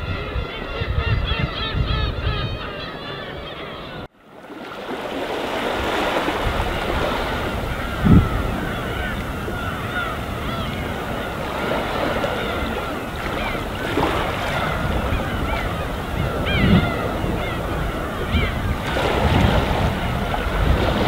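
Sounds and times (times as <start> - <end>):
calm sea waves: 0.0 - 21.0
gulls calling: 0.0 - 21.0.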